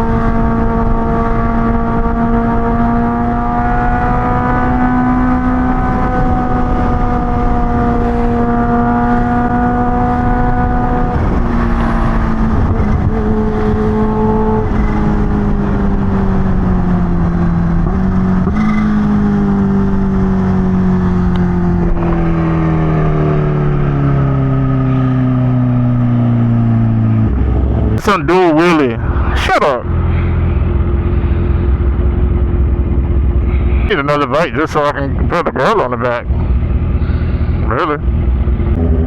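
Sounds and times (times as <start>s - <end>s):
wind noise: 0.0s - 35.5s
motorcycle engine slowing: 0.0s - 39.0s.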